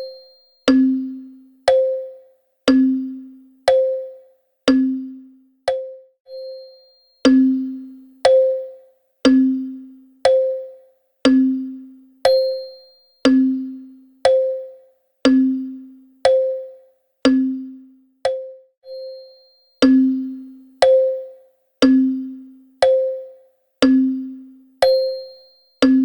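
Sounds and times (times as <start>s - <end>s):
wall clock ticking: 0.7s - 5.0s, 5.7s - 6.0s, 7.2s - 18.6s, 19.8s - 24.2s, 24.8s - 26.0s.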